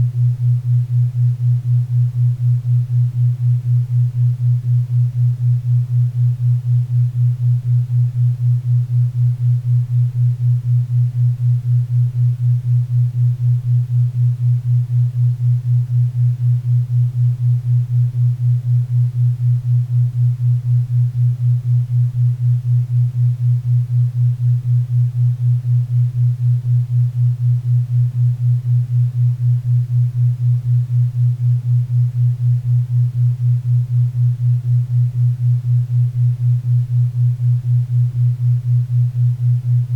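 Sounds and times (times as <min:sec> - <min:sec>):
low pulsing hum: 0:00.0 - 0:39.9.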